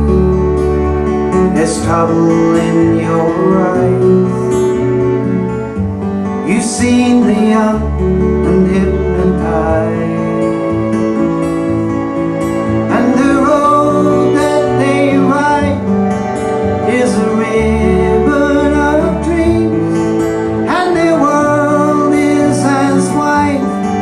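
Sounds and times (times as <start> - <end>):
acoustic folk guitar: 0.0 - 24.0
wavering lead melody: 0.0 - 24.0.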